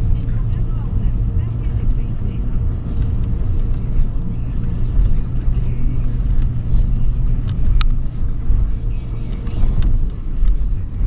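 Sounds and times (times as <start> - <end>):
engine and tyres rumbling on sand: 0.0 - 11.0.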